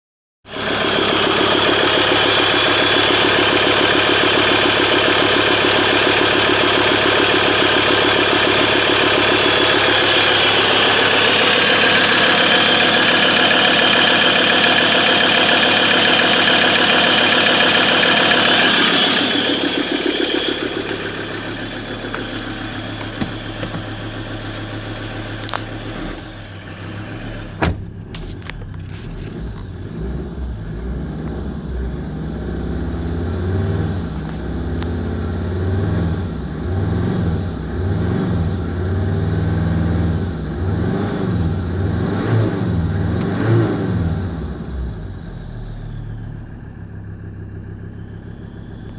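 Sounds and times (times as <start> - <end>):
diesel engine running: 0.5 - 48.9.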